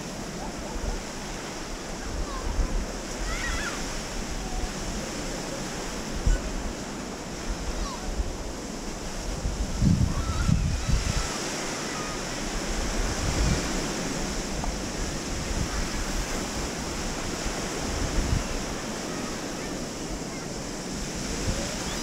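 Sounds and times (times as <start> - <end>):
waves washing on sandy beach: 0.0 - 22.0
wind buffeting microphone: 0.0 - 22.0.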